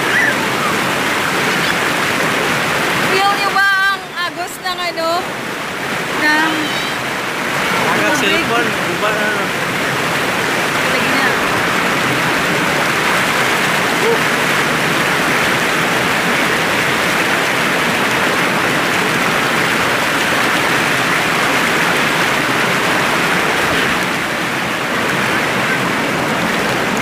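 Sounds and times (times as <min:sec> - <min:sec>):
spring water rushing: 0:00.0 - 0:27.0.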